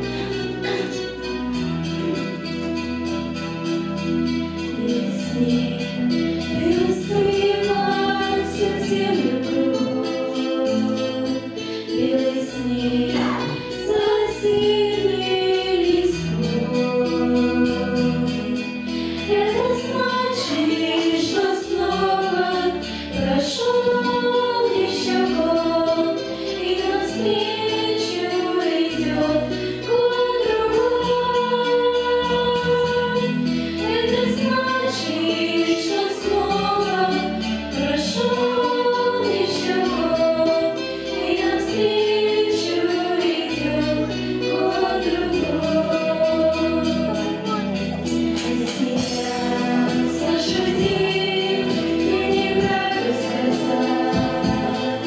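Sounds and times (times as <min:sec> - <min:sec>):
women singing in harmony: 0:00.0 - 0:01.5, 0:04.2 - 0:55.0
steady bass notes: 0:00.0 - 0:55.0.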